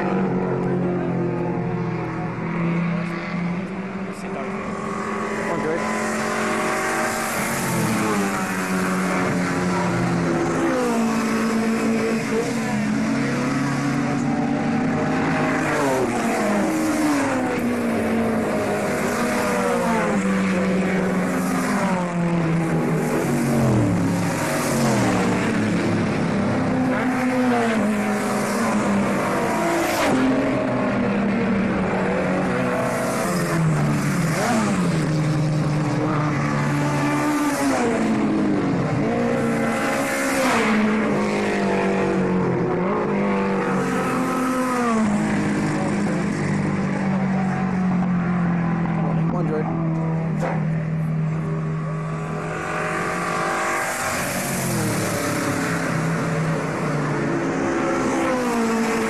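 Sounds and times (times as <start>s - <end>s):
racing car engines passing at speed: 0.0s - 59.0s.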